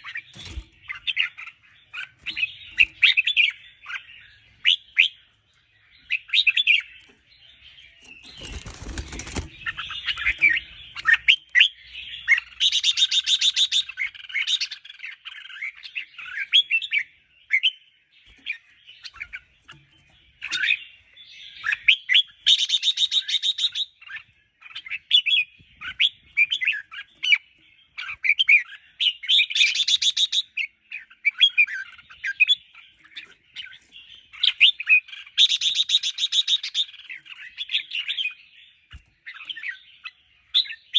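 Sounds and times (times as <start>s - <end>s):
bulbuls chirping: 0.0s - 40.9s.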